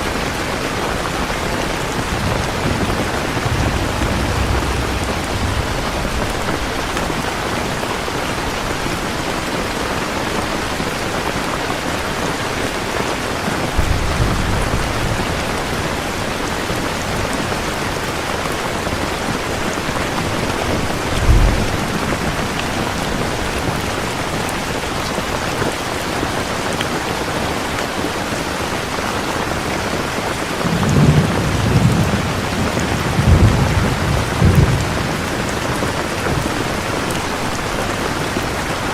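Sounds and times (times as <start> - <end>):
thunder rumbling: 0.0 - 11.1, 13.1 - 25.8, 30.6 - 38.9
heavy rain: 0.0 - 38.9.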